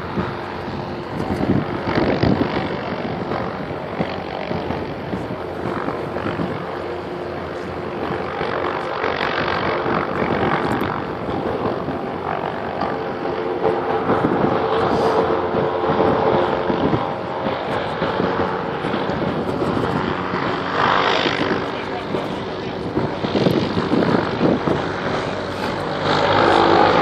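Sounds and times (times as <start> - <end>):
helicopter engines and rotors: 0.0 - 27.0
wind on microphone: 0.0 - 27.0.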